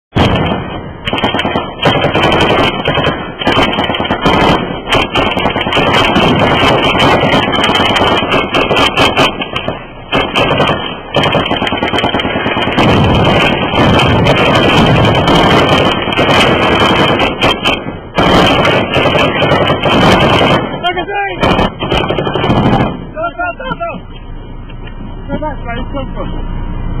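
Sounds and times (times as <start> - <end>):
heavy gunfire: 0.1 - 24.0
rifle firing close: 0.2 - 23.1.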